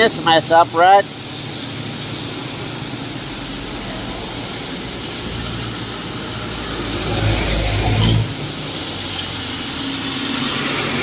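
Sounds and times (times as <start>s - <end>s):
traffic hiss on wet road: 0.0s - 11.0s
vehicle engine rumble: 1.0s - 11.0s.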